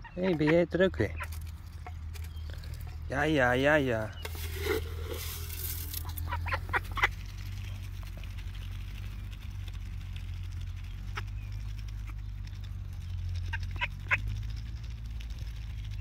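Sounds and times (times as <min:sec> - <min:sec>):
ducks dabbling grain from a hand: 0:00.0 - 0:16.0.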